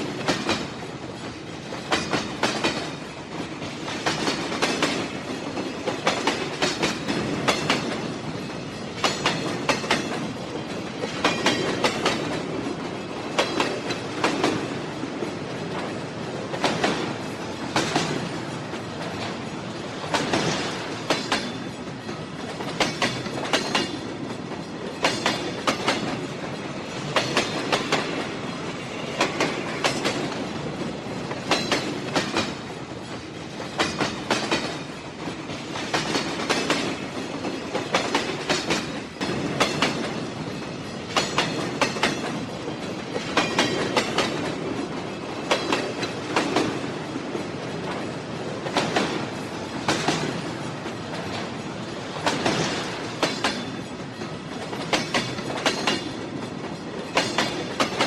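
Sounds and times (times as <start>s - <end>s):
train rolling rumble: 0.0s - 58.0s
wheels clicking over rail joints: 0.0s - 58.0s.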